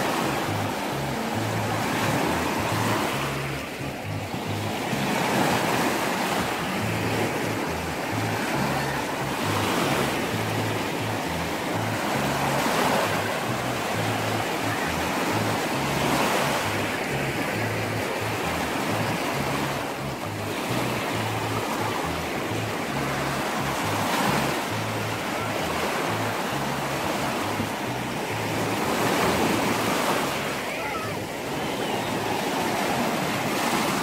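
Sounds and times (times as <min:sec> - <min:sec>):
light background music: 0:00.0 - 0:34.0
small waves washing on shore: 0:00.0 - 0:34.0.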